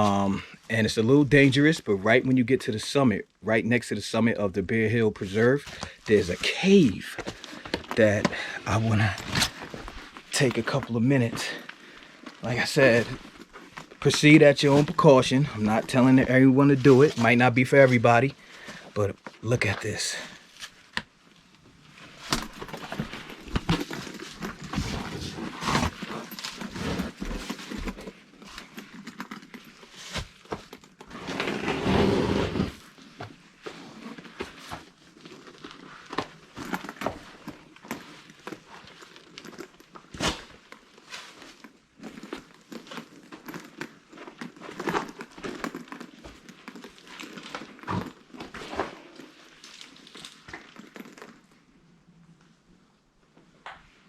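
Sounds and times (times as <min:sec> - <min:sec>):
scrapes and rustles of climbing: 0:00.0 - 0:01.8, 0:05.2 - 0:51.5.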